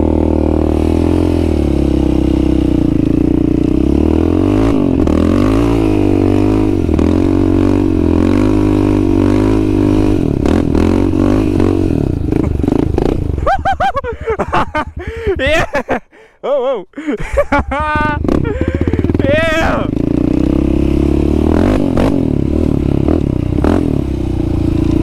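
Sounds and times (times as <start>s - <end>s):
quad bike engine revving: 0.0s - 16.0s, 17.2s - 25.0s.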